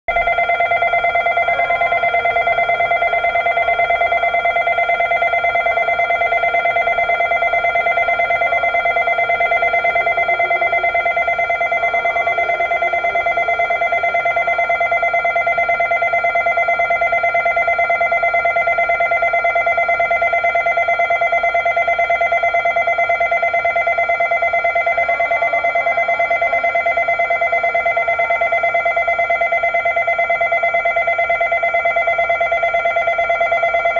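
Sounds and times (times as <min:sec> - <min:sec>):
electronic alarm ringing: 0:00.1 - 0:33.9.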